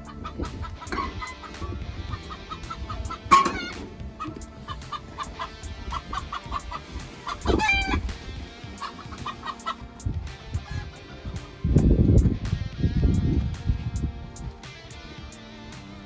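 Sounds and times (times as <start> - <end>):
music with plucked notes: 0.0 - 16.0.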